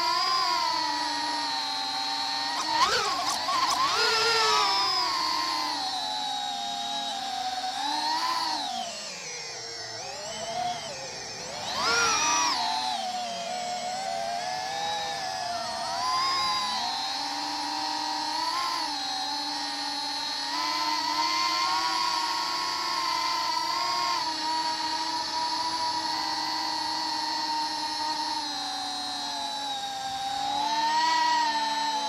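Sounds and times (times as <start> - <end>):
drone motors whining: 0.0 - 32.0.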